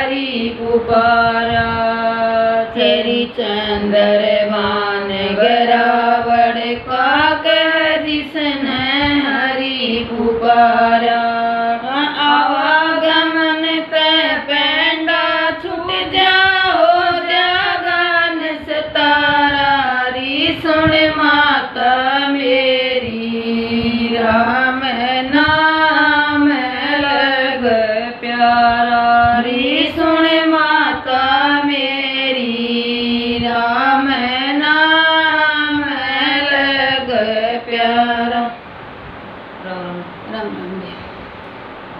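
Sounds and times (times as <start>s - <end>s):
two women singing: 0.0s - 38.7s.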